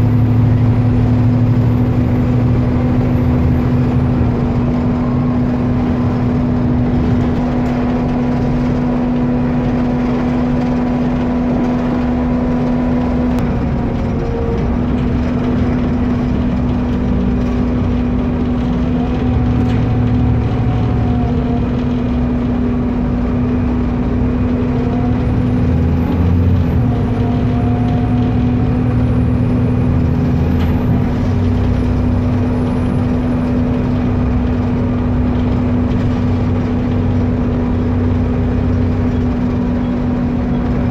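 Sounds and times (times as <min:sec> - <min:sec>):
bus engine roar: 0:00.0 - 0:40.9.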